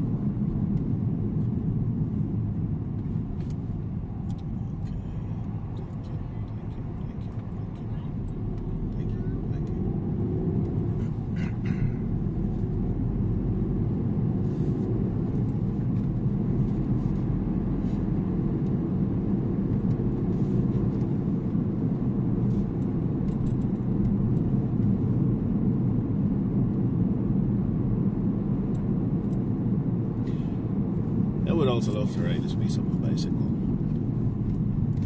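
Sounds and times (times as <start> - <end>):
car tyres and engine rumble: 0.0 - 35.0.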